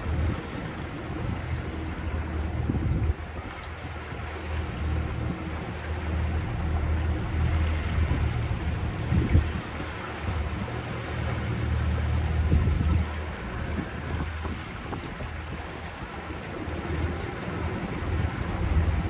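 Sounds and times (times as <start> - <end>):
boat motor running: 0.0 - 19.0
wind gusting on microphone: 0.0 - 19.0.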